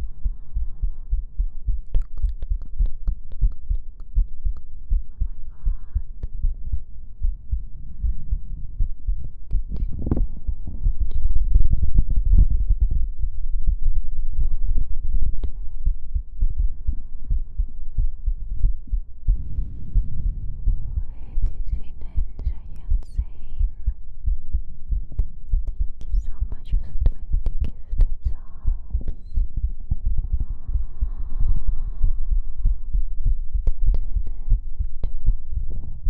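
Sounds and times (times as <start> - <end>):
heartbeat thumps: 0.0 - 36.0.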